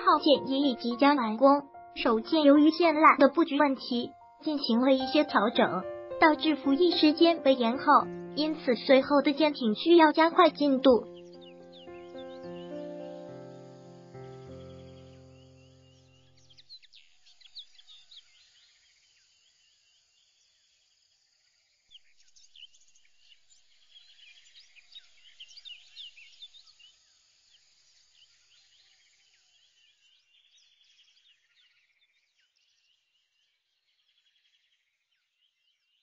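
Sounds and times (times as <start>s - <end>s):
faint bird chirps and trills: 0.0s - 36.0s.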